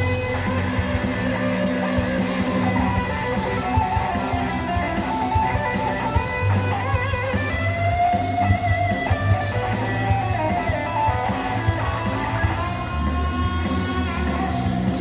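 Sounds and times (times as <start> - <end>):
bass notes: 0.0 - 15.0
electric guitar: 0.0 - 15.0
steady drum beat: 0.0 - 15.0.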